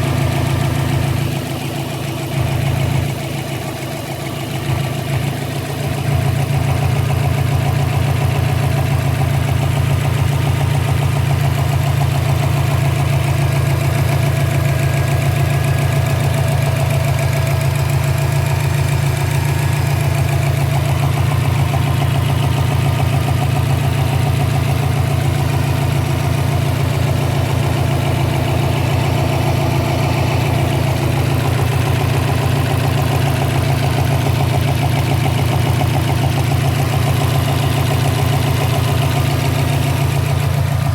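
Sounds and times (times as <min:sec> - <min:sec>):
car engine idling: 0:00.0 - 0:40.9
engine popping: 0:00.0 - 0:40.9.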